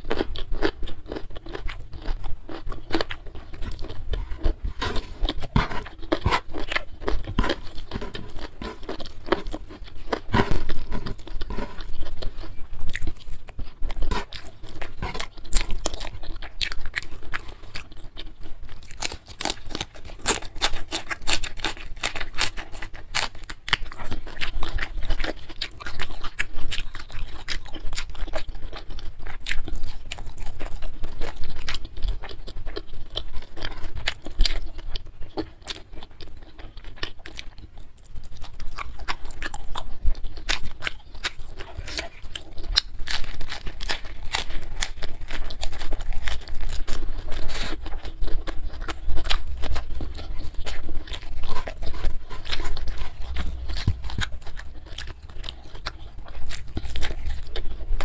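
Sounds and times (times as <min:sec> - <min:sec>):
chewing with crisp crunches: 0:00.0 - 0:58.0.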